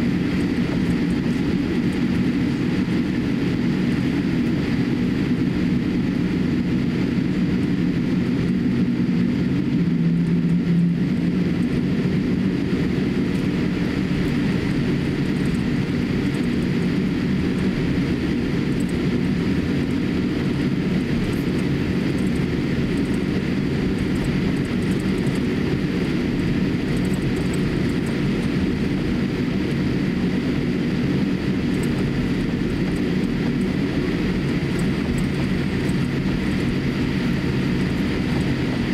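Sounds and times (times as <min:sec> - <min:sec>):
engine and rolling rumble: 0:00.0 - 0:38.9
faint steady whine: 0:00.0 - 0:38.9.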